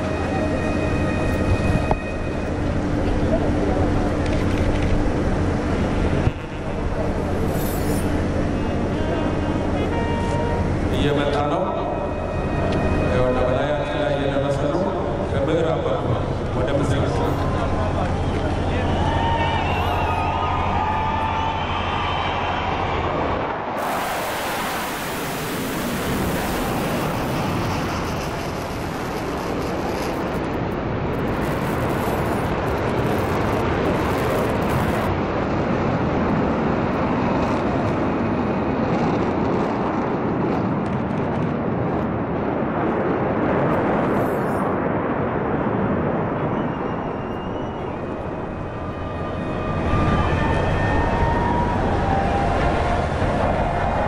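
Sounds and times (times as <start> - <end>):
fighter jet flying overhead: 0.0 - 54.0.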